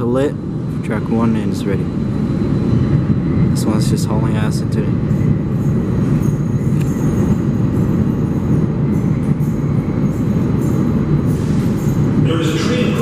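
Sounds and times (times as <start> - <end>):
subway train wheels rumbling on rails: 0.0 - 13.0.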